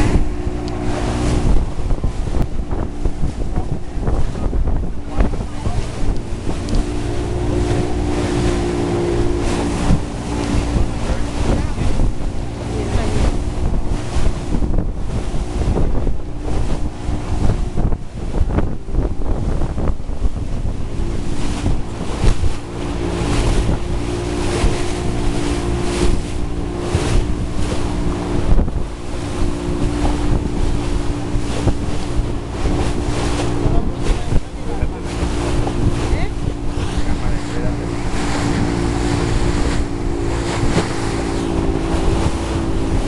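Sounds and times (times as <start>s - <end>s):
motorboat engine drone: 0.0s - 43.0s
water splashing against hull: 0.0s - 43.0s
wind buffeting microphone: 0.0s - 43.0s.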